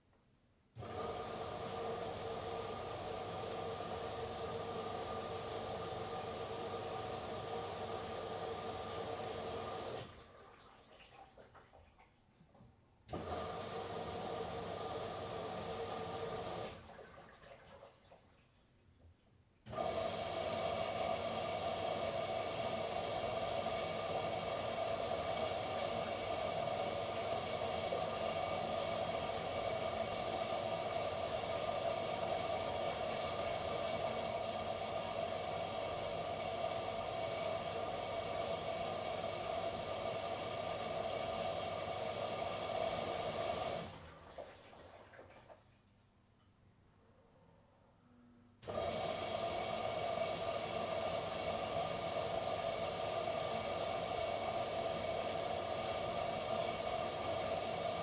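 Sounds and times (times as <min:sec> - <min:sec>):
water rushing into washing machine: 0:00.8 - 0:18.8, 0:19.6 - 0:45.9, 0:48.6 - 0:58.0.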